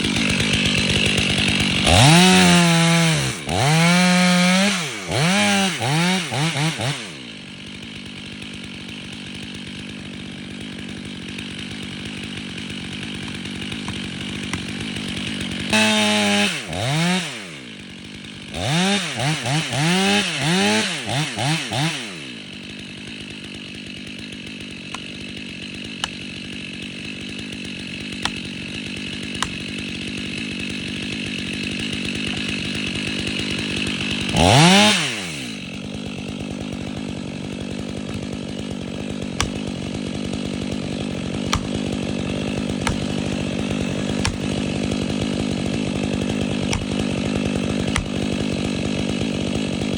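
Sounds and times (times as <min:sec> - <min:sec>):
chainsaw idling and revving: 0:00.0 - 0:49.9.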